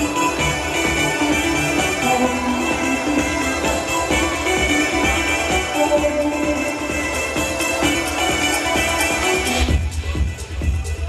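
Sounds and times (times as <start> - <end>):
electronic house music: 0.0 - 11.0.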